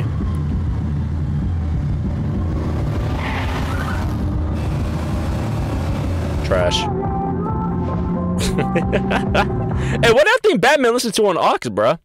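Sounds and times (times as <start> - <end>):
cartoon car engine rumbling: 0.0 - 10.1.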